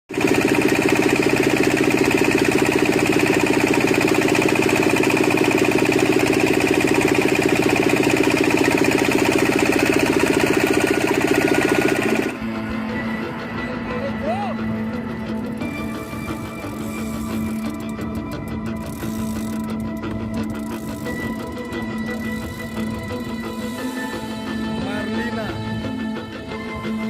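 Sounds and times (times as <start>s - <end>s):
boat engine running: 0.1s - 27.0s.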